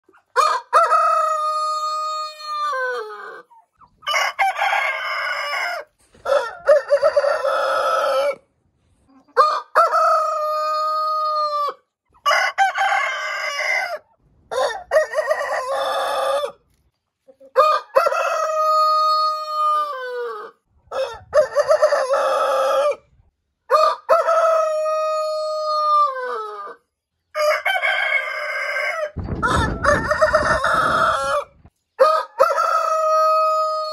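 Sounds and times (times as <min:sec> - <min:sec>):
roosters crowing: 0:00.2 - 0:08.5, 0:09.4 - 0:16.6, 0:17.5 - 0:33.9.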